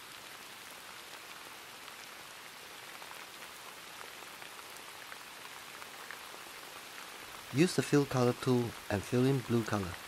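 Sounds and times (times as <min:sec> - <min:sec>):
patter of raindrops: 0:00.0 - 0:10.0
steady rain hiss: 0:00.0 - 0:10.0.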